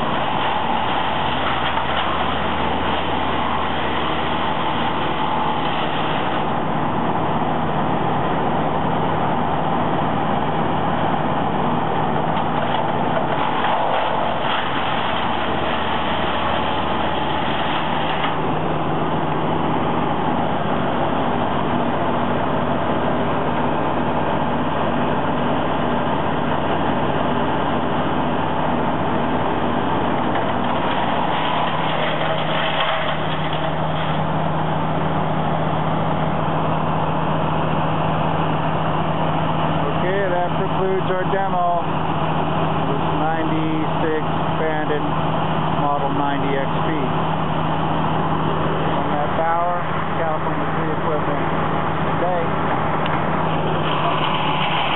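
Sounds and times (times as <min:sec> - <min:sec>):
chipper engine running: 0:00.0 - 0:54.9.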